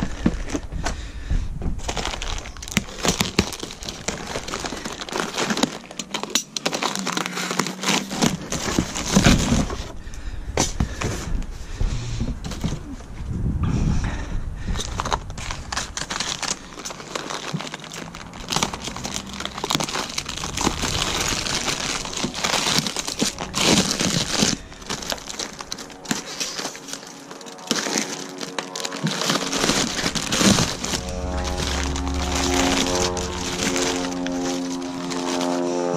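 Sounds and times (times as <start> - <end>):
packaging crinkling and rustling: 0.0 - 1.0, 1.8 - 11.5, 14.8 - 35.9.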